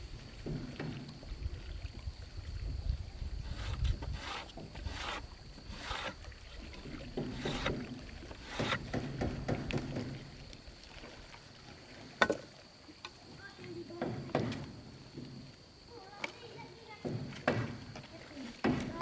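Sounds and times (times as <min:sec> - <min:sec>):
water swishing and splashing: 0:00.0 - 0:19.0.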